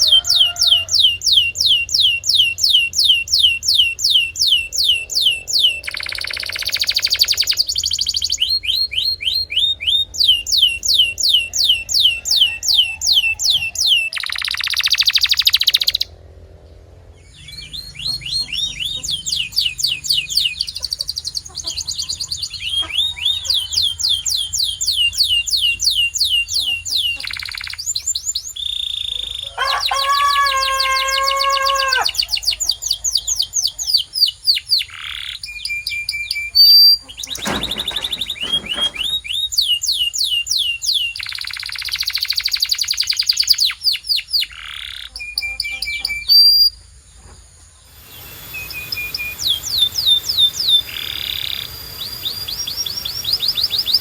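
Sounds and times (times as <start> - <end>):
canary singing trills: 0.0 - 16.2, 17.2 - 46.9, 47.8 - 54.0.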